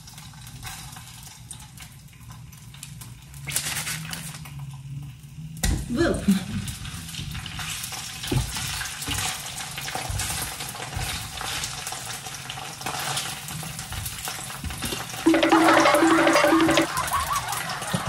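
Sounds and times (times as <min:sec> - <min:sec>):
food sizzling in a pan: 0:00.0 - 0:05.6, 0:06.6 - 0:18.0.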